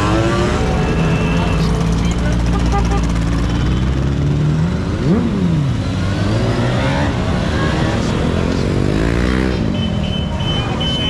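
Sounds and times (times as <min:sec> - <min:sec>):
motorcycles revving past: 0:00.0 - 0:09.8
traffic rumble: 0:00.0 - 0:11.0.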